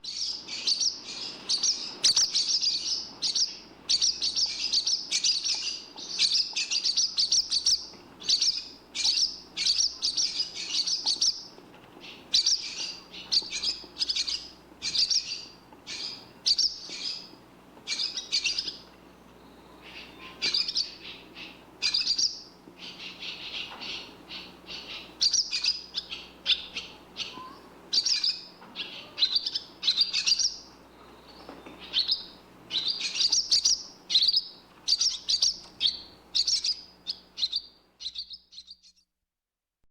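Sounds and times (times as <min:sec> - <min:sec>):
swallow twittering: 0:00.0 - 0:38.9.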